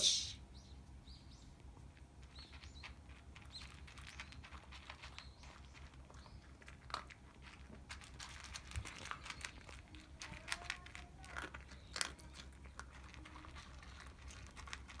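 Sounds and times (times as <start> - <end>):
puppy crunching food: 1.6 - 15.0.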